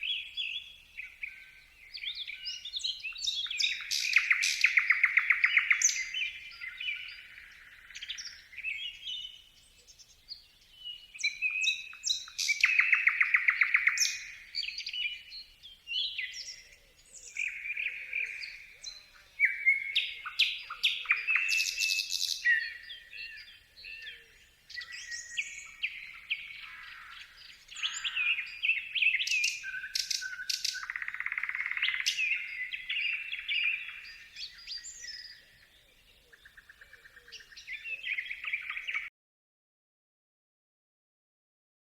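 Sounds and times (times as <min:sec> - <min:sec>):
bird chirping and trilling: 0:02.2 - 0:09.4, 0:10.9 - 0:15.3, 0:16.0 - 0:39.1.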